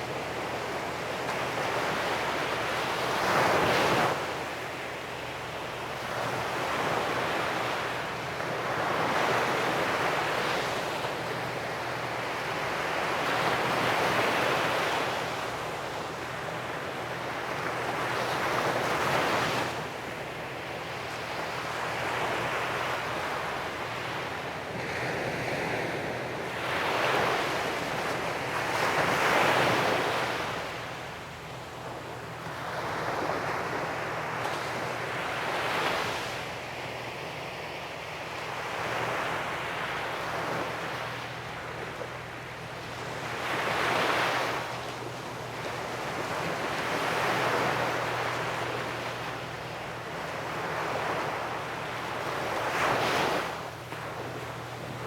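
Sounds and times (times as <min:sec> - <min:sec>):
sea waves breaking on beach: 0:05.9 - 0:55.0.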